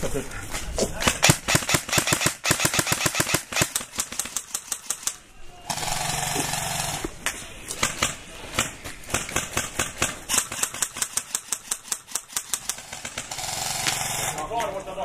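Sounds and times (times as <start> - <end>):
airsoft full-auto burst: 1.0 - 7.0, 7.8 - 14.5.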